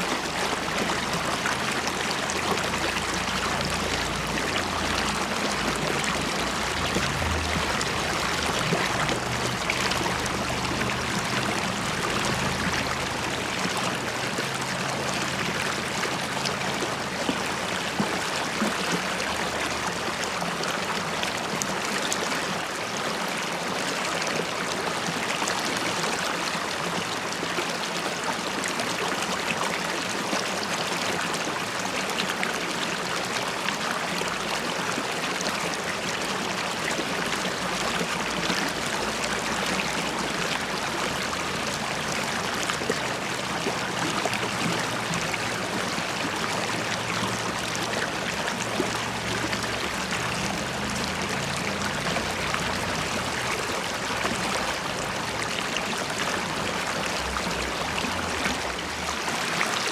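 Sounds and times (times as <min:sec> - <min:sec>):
river water flowing and bubbling: 0:00.0 - 0:59.9.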